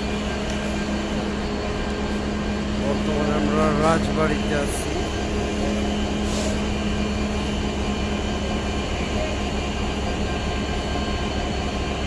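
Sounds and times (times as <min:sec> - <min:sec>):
passenger train rumble: 0:00.0 - 0:12.0
steady hum: 0:00.0 - 0:12.0.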